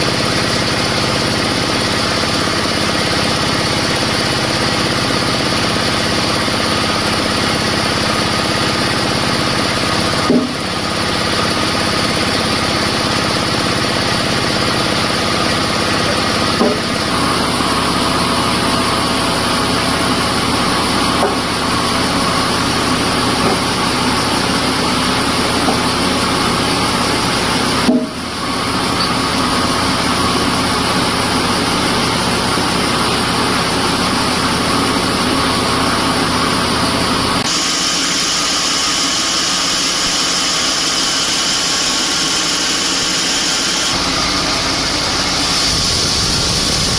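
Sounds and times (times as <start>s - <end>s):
sawmill machinery drone: 0.0s - 46.9s.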